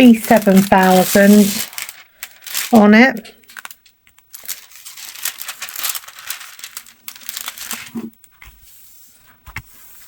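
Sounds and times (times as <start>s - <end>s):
plastic crinkling and rustling: 0.0s - 8.4s.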